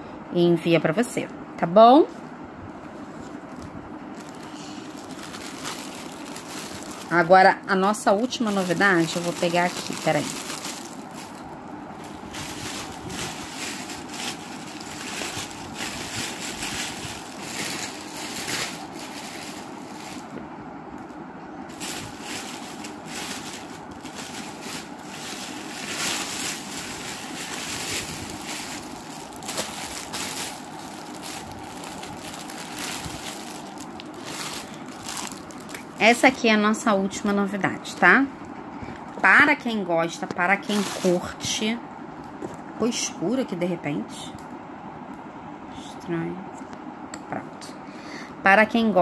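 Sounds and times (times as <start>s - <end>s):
rustling and handling noises: 2.1s - 41.6s.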